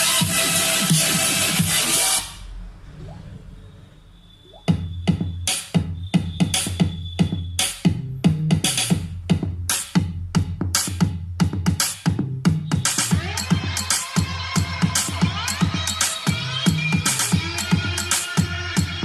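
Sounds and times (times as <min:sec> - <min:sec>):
electronic music with drum-machine beat: 0:00.0 - 0:02.4, 0:04.6 - 0:19.0.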